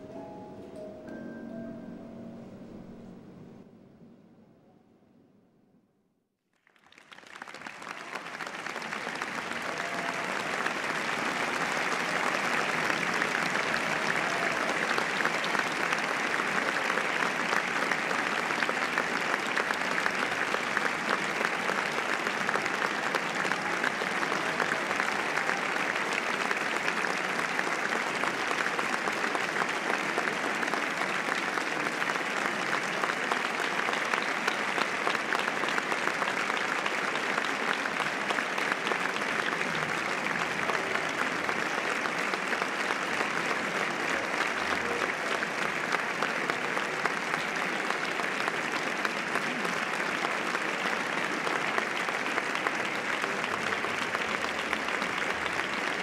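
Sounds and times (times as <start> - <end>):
audience applauding: 6.5 - 56.0.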